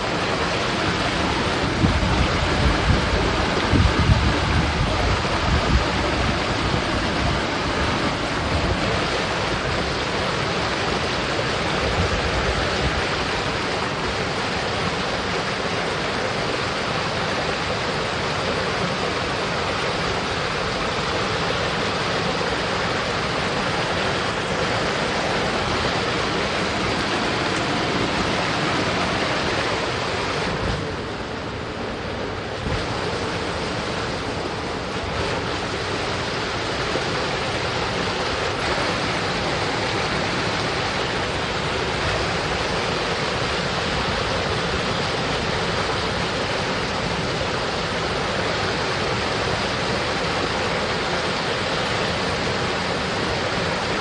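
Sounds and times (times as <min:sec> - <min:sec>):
mountain stream flowing water: 0:00.0 - 0:54.0.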